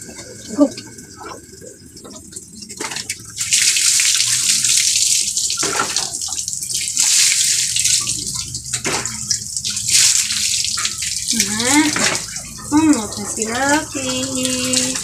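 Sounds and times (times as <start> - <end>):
water splashing on concrete: 2.7 - 15.0.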